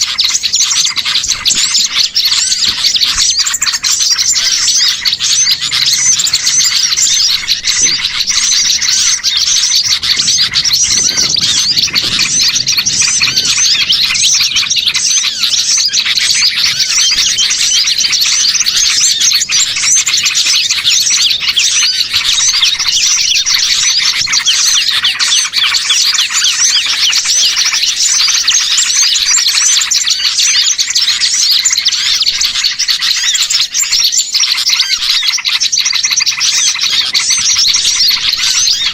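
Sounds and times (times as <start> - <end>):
flock of songbirds chirping: 0.0 - 38.9.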